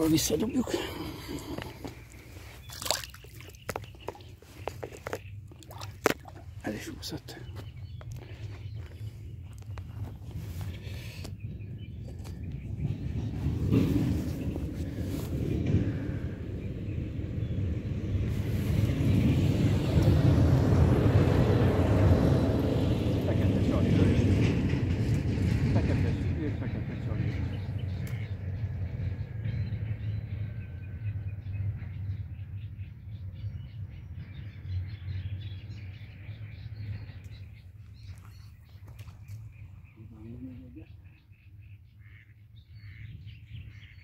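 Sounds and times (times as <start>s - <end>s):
birds chirping: 0.0s - 20.4s, 22.8s - 44.0s
wind buffeting the microphone: 0.0s - 41.4s, 42.6s - 44.0s.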